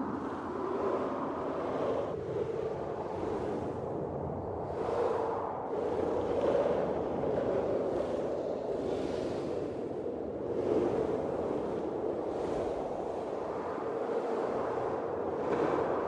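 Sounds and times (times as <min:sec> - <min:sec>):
blizzard wind gusting: 0:00.0 - 0:16.0.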